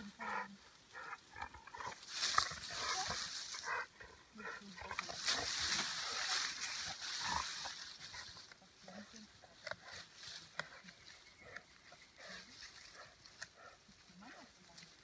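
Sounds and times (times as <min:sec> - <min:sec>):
dog grunting and snuffling: 0:00.0 - 0:14.6
twigs and leaves rustling: 0:00.0 - 0:15.0.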